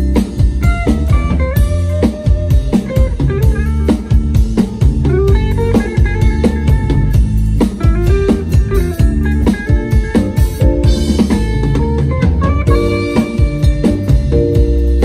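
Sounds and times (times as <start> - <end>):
drum kit beat: 0.0 - 15.0
guitar melody: 0.0 - 15.0.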